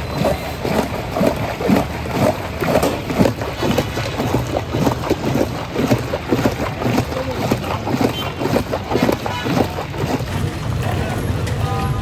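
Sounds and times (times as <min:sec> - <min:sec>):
thick drink sloshing in metal pot: 0:00.0 - 0:10.9.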